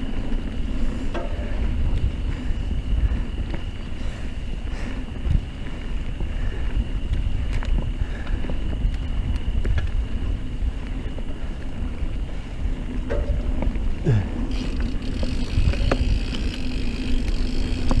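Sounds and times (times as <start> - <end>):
bike clicks and rattles: 0.0 - 18.0
tyres rumbling on dirt: 0.0 - 18.0
wind buffeting microphone: 0.0 - 18.0.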